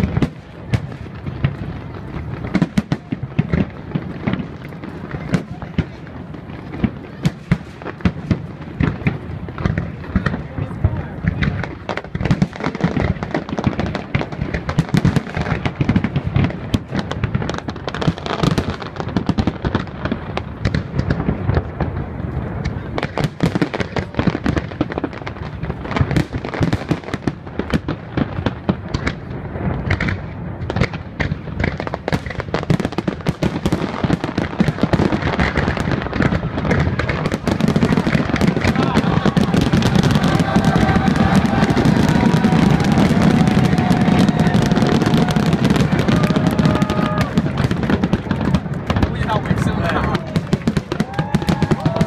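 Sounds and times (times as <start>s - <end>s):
fireworks bursting with crackling: 0.0s - 52.0s.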